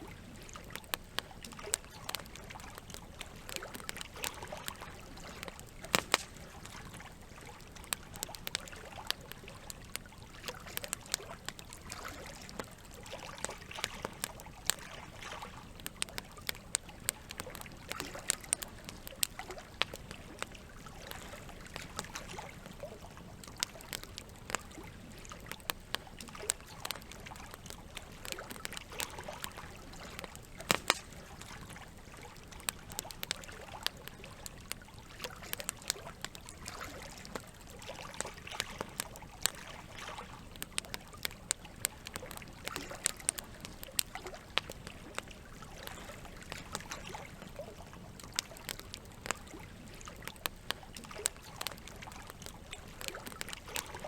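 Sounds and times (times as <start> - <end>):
campfire crackling and popping: 0.0 - 54.0
running water trickling: 0.0 - 54.0.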